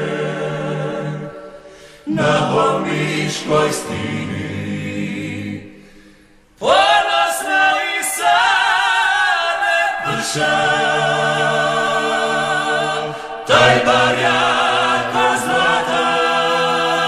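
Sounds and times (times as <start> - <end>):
a cappella group singing in harmony: 0.0 - 17.0.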